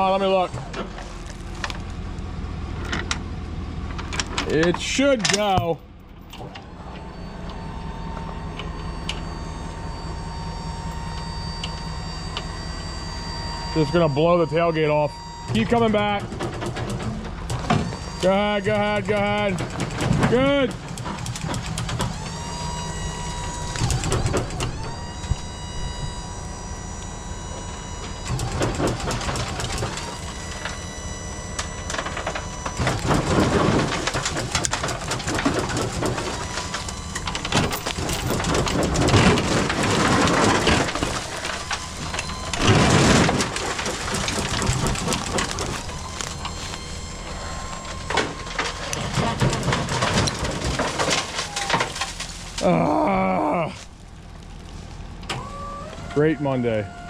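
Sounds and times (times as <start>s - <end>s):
machinery engine drone: 0.0s - 57.0s
high multi-tone whine: 6.4s - 55.5s.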